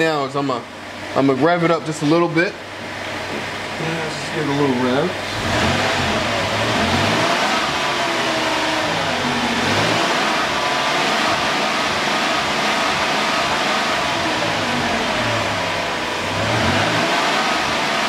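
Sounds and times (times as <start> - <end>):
misfiring car engine revving: 2.9 - 18.0.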